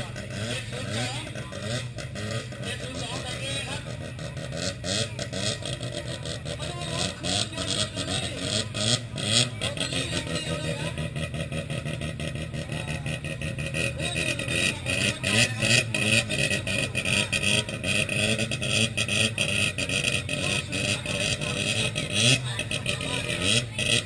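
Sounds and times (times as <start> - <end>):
rotary engine revving: 0.0 - 24.0.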